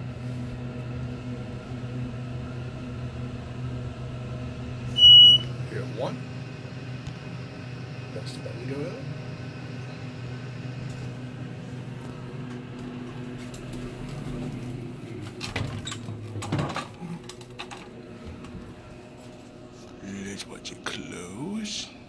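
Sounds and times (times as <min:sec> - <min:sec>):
elevator electrical hum: 0:00.0 - 0:22.0.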